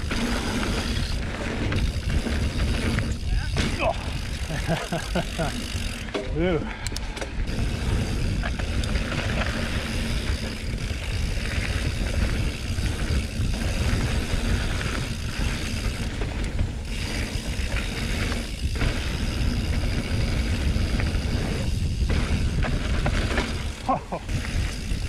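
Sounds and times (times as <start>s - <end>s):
bike rattling: 0.0s - 25.0s
bike tyres on dirt: 0.0s - 25.0s
freehub clicking: 0.0s - 25.0s.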